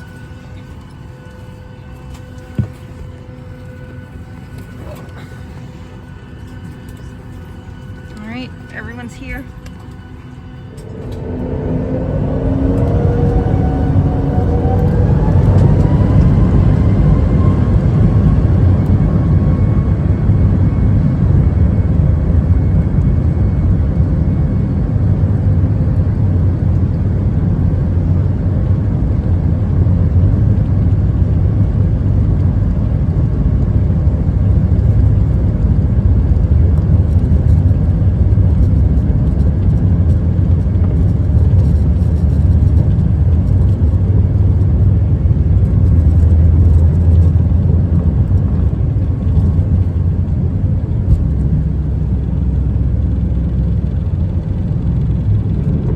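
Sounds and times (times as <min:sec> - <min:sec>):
jet engine whine: 0:00.0 - 0:55.9
low engine rumble: 0:00.0 - 0:55.9.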